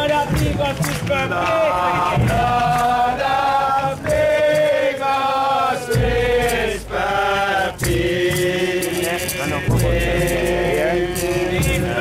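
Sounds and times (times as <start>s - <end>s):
group chanting in unison: 0.2s - 12.0s.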